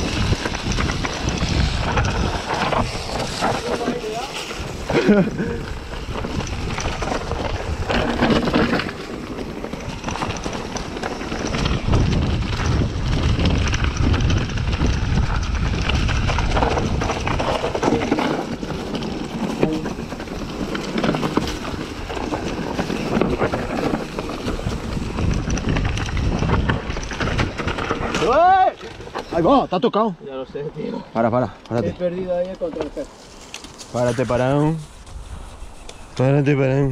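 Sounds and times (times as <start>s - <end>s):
bicycle knocks and rattles: 0.0s - 29.7s
wind buffeting microphone: 0.0s - 29.8s.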